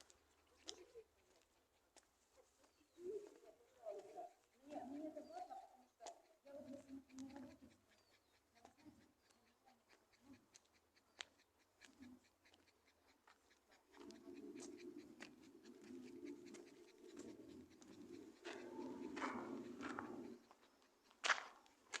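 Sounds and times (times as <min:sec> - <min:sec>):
dog clicks and scuffs: 0:00.0 - 0:22.0
low dog sound: 0:00.0 - 0:22.0.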